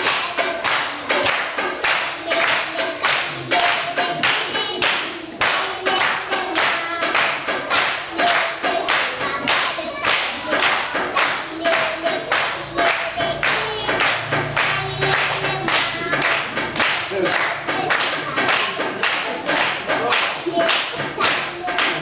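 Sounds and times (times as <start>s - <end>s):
people singing: 0.0s - 22.0s
rhythmic hand clapping: 0.0s - 22.0s.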